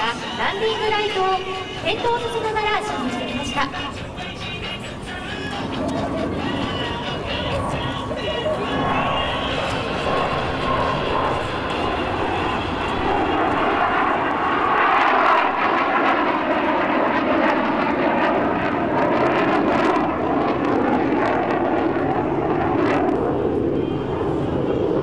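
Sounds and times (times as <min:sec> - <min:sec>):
jet aircraft passing: 0:00.0 - 0:25.0.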